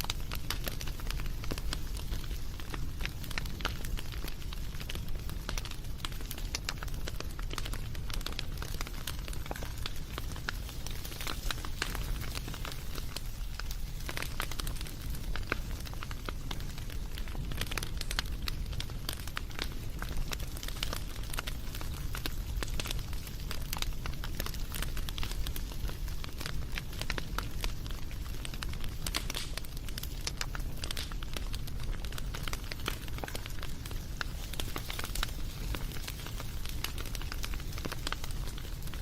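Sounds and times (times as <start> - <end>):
low rumble of flames: 0.0 - 39.0
wood fire crackling and popping: 0.0 - 39.0.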